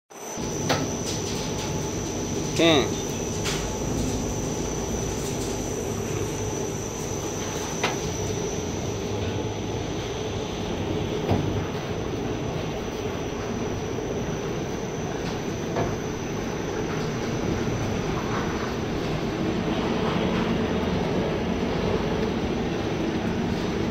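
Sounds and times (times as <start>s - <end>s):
machinery high whine: 0.1s - 23.9s
machinery low hum: 0.1s - 23.9s.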